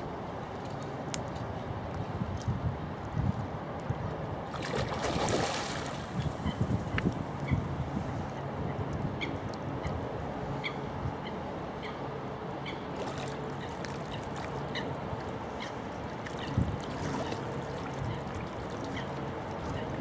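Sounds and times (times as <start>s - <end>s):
lake water: 0.0s - 20.0s
wind: 0.0s - 20.0s.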